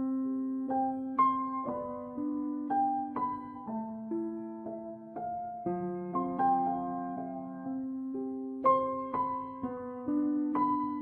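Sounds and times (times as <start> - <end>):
soft piano playing slow notes: 0.0 - 11.0.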